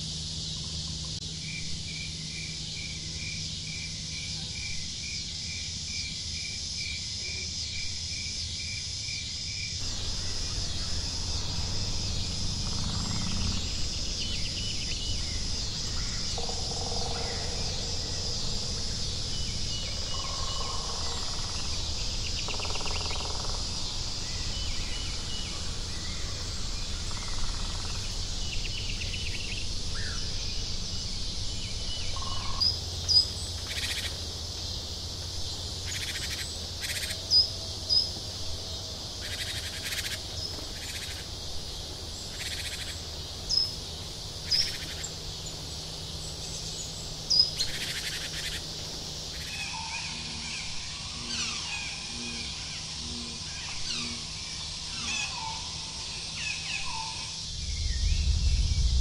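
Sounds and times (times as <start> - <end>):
high insect-like hiss: 0.0 - 59.0.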